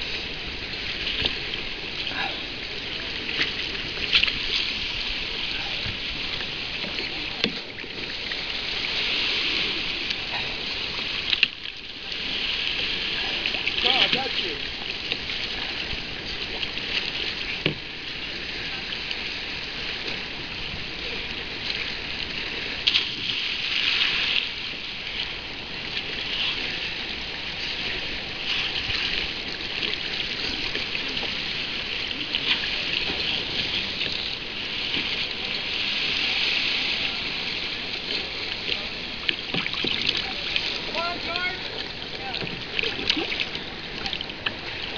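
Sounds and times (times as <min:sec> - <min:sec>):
water splashing around a kayak: 0:00.0 - 0:44.9.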